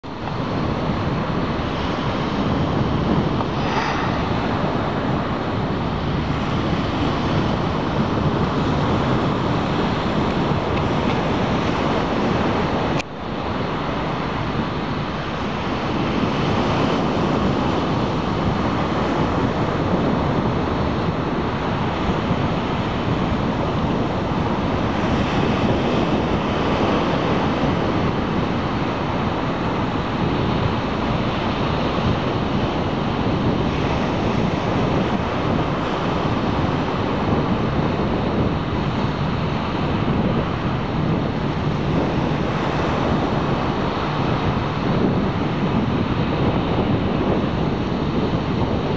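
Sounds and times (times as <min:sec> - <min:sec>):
ocean surf breaking: 0:00.1 - 0:48.9.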